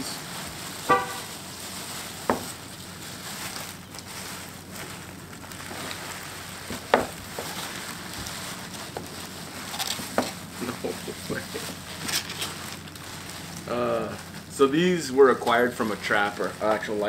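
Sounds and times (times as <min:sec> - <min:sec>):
plastic bags rustling: 0:00.0 - 0:17.0.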